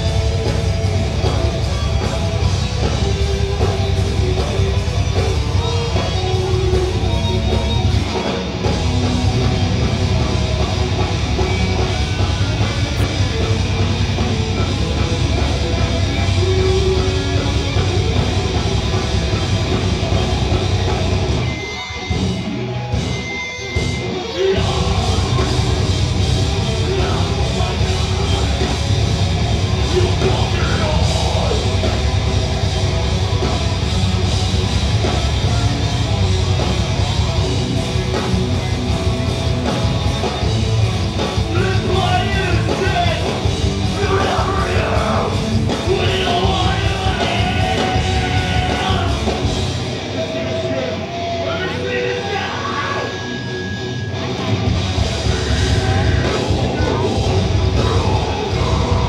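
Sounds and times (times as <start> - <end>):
drum kit: 0.0 - 53.2, 54.2 - 59.0
bass guitar: 0.0 - 59.0
distorted electric guitars: 0.0 - 59.0.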